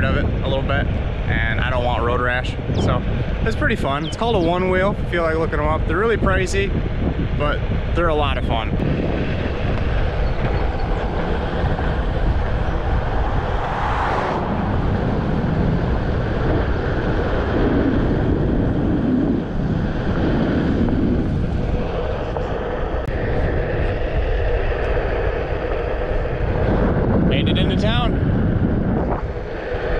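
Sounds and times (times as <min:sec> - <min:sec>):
wind on microphone: 0:00.0 - 0:29.9.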